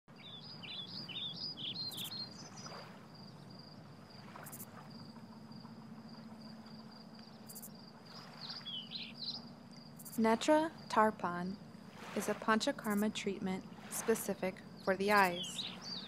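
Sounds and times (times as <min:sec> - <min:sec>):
birds chirping: 0:00.1 - 0:16.0
low steady hum: 0:00.1 - 0:16.0.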